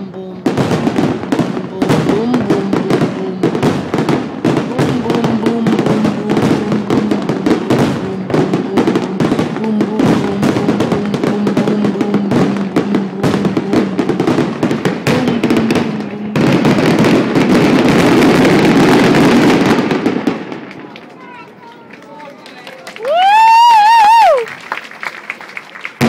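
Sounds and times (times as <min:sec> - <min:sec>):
fireworks bangs and crackles: 0:00.0 - 0:24.4.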